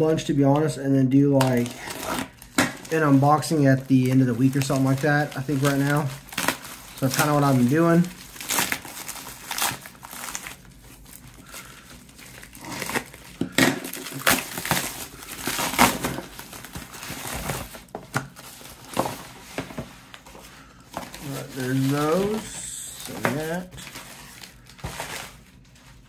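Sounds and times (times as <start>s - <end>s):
plastic bag crinkling and tearing: 1.4s - 26.0s.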